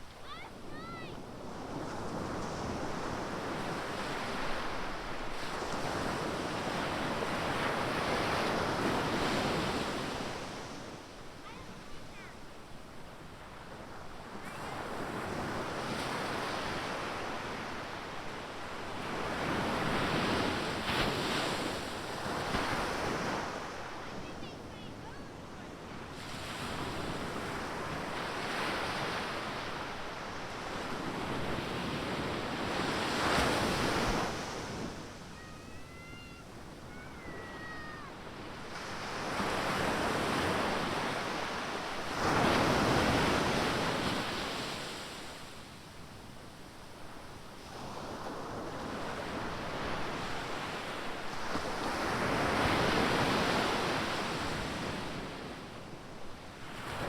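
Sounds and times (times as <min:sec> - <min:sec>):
waves breaking on beach: 0:00.0 - 0:12.5, 0:13.2 - 0:57.0.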